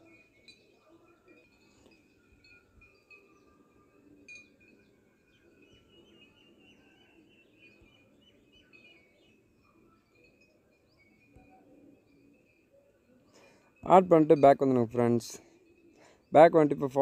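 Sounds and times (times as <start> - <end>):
soft high chirps: 0.0 - 13.9.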